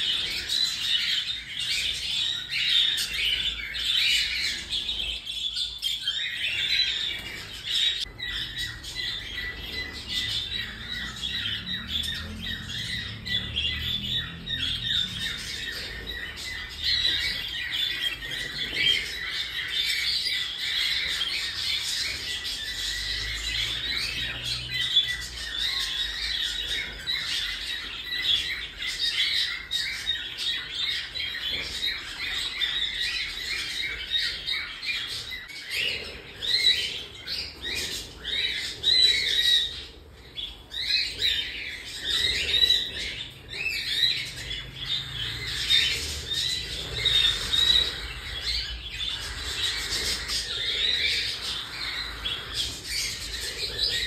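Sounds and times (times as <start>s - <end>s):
baby birds squawking and chirping: 0.0s - 54.0s.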